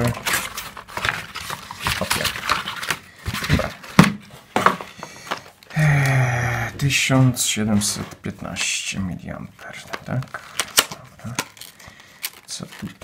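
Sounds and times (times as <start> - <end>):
cardboard packaging rustling: 0.0 - 5.7, 7.7 - 13.0.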